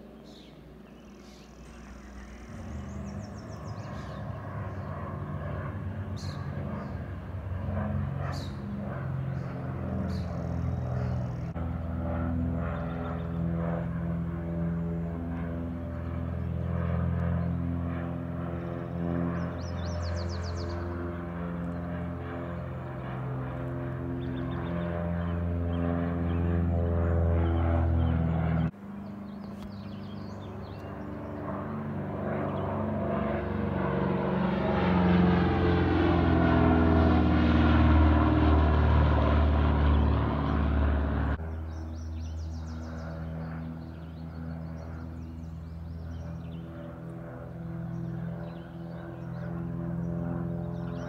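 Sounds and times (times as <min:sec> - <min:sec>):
whoosh of plane passing over: 0:00.0 - 0:28.7, 0:29.6 - 0:51.0
propeller plane engine drone: 0:00.0 - 0:51.0.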